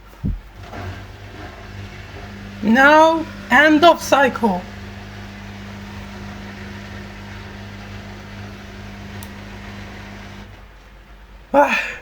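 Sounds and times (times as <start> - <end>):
washing machine pump hum: 0.0 - 11.2.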